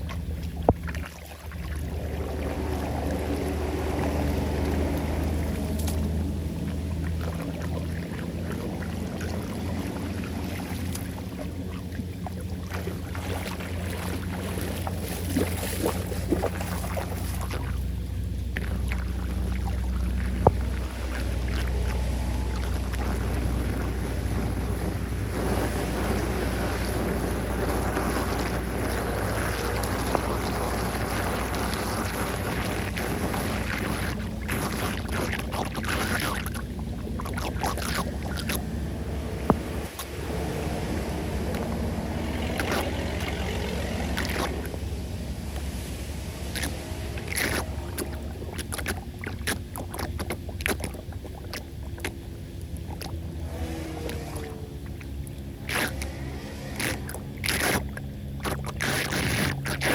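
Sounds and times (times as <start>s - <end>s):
floodwater rushing into drain: 0.0s - 59.9s
wind rumbling on microphone: 0.0s - 59.9s.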